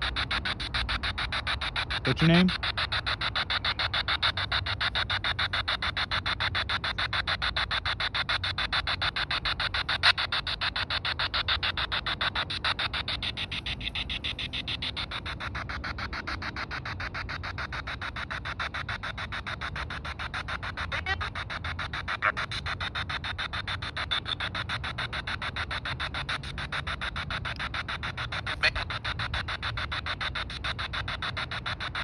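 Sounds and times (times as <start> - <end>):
chopped radio static: 0.0 - 32.0.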